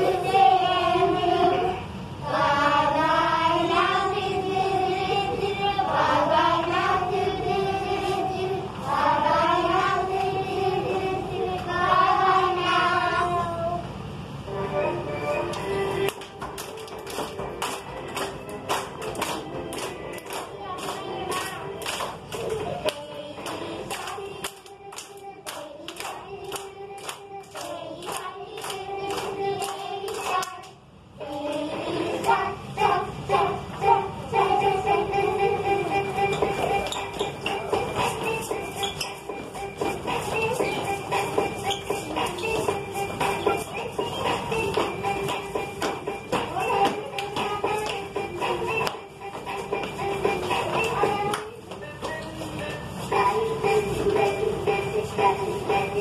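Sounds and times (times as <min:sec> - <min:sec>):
young children singing: 0:00.0 - 0:13.9, 0:19.8 - 0:56.0.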